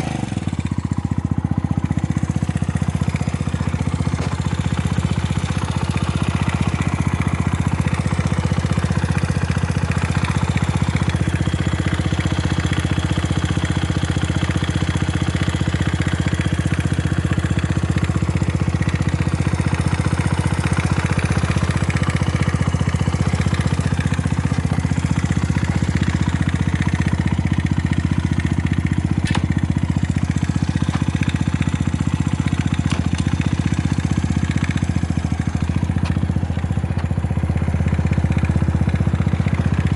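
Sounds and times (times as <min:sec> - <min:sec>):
small engine idling: 0:00.0 - 0:39.9.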